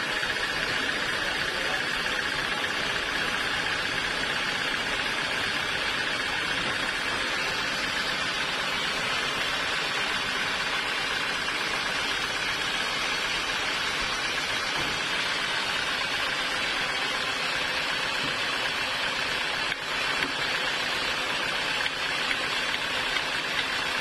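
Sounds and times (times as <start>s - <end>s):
faint steady whine: 0.0s - 24.0s
sawmill machinery rushing: 0.0s - 24.0s.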